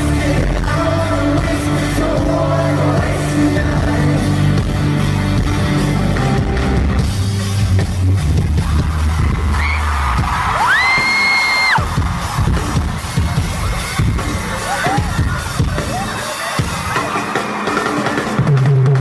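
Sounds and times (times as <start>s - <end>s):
crowd screaming and cheering: 0.0s - 19.0s
live rock song: 0.0s - 19.0s.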